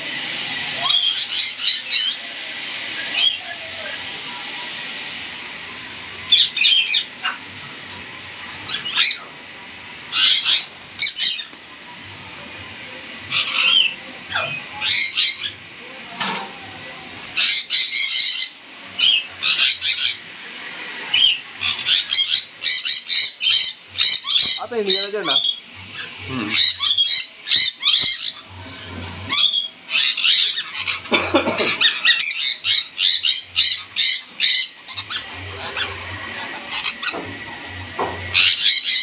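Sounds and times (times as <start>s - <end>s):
parrots squawking: 0.2s - 4.8s, 5.8s - 12.4s, 13.0s - 39.0s.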